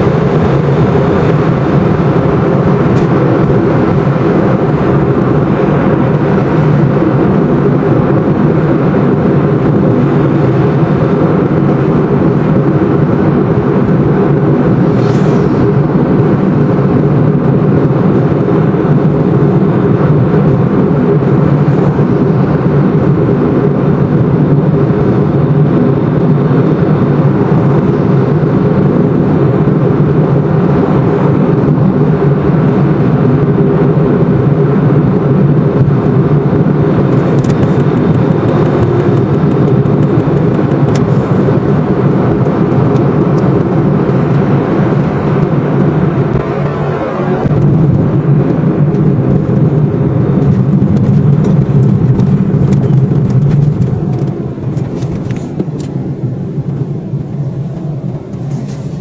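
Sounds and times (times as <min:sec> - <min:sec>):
car driving low rumble: 0:00.0 - 0:59.0.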